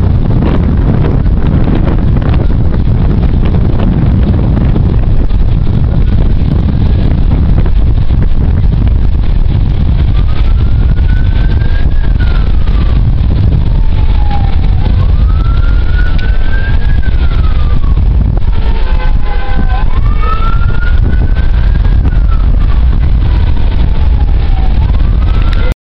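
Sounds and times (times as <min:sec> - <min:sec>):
emergency vehicle siren wailing: 0:00.0 - 0:25.8
wind rumble on microphone: 0:00.0 - 0:25.8.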